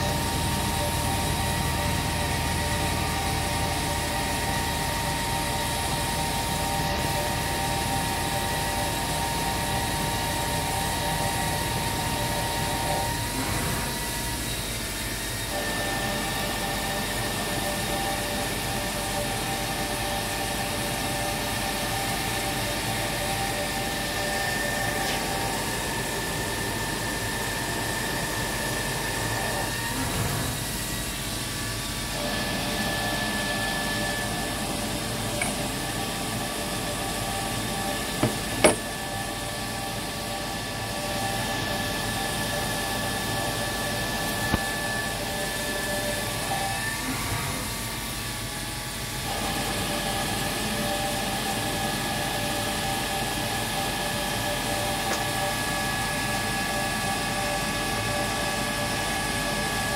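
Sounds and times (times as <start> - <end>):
machinery with high whine: 0.0 - 59.9.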